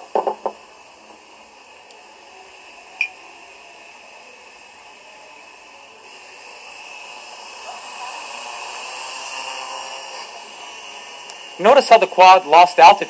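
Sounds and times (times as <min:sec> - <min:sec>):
drone propellers whirring: 0:00.0 - 0:13.0.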